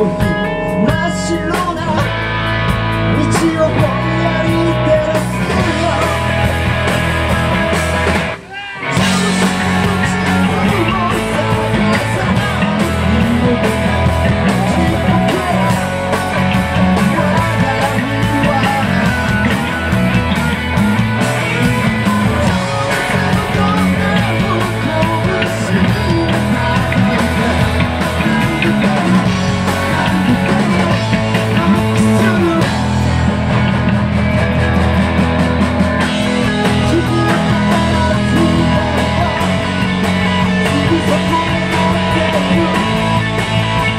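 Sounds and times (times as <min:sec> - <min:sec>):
drum kit: 0:00.0 - 0:43.9
electric bass: 0:00.0 - 0:43.9
electric guitars: 0:00.0 - 0:43.9.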